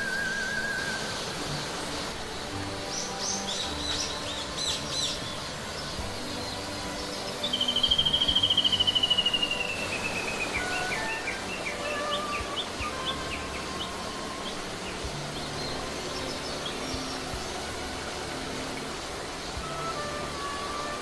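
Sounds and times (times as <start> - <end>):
mountain stream over cascade: 0.0 - 21.0
pulsed trilling call: 0.0 - 21.0.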